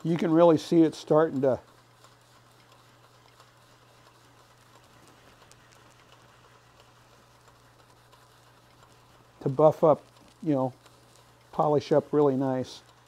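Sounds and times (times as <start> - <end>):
faint hiss: 0.0 - 13.0
wood lathe humming: 0.0 - 13.0.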